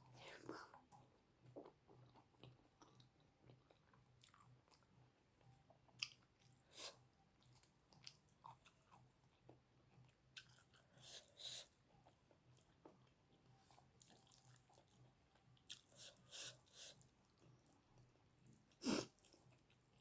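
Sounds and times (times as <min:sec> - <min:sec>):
chewing: 0:00.3 - 0:20.0.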